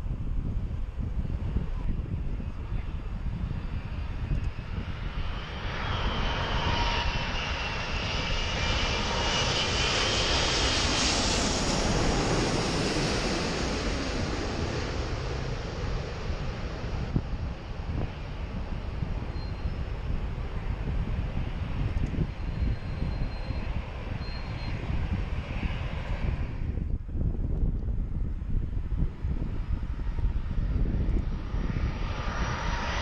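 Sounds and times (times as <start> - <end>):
jet airliner roar overhead: 0.0 - 33.0.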